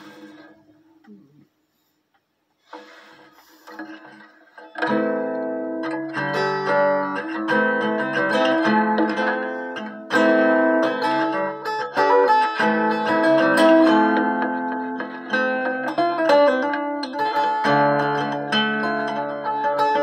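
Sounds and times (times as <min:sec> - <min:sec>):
fingerpicked resonator guitar: 0:02.8 - 0:20.0.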